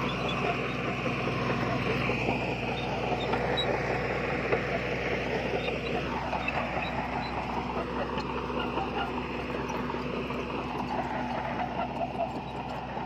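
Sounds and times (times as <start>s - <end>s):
heavy diesel machinery running: 0.0s - 13.0s.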